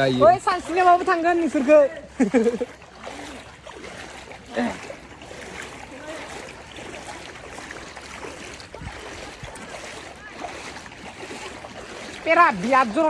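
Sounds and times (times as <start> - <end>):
feet splashing through water: 0.0 - 13.0.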